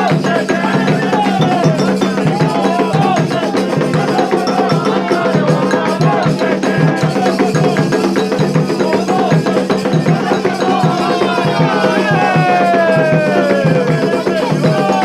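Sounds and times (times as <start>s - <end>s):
drums and percussion: 0.0s - 15.0s
voices singing a chant: 0.0s - 15.0s.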